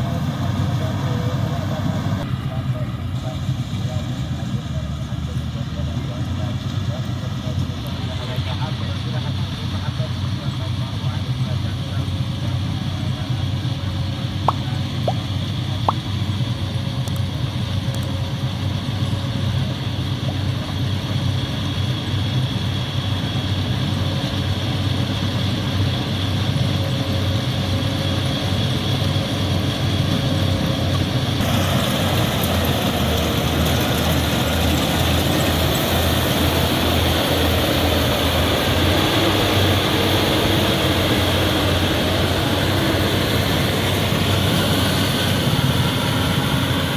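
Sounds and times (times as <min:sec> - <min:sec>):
diesel engine drone: 0:00.0 - 0:46.9.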